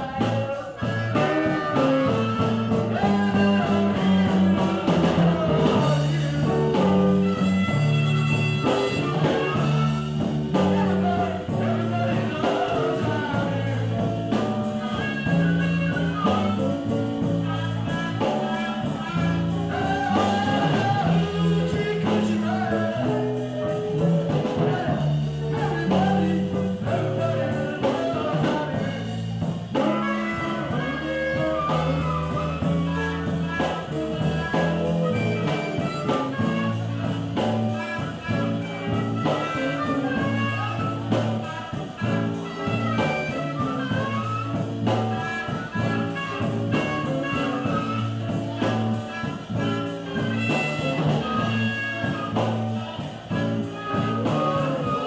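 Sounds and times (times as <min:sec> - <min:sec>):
rock band playing blues: 0:00.0 - 0:55.0.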